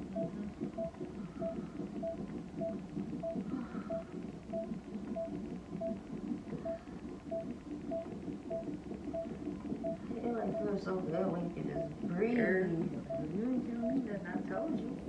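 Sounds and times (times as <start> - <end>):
hospital monitor beeping: 0.0 - 15.0.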